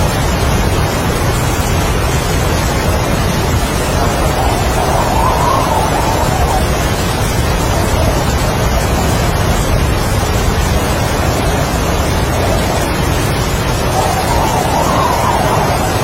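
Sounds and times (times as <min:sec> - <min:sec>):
heavy rain: 0:00.0 - 0:16.0
strong gusting wind: 0:00.0 - 0:16.0.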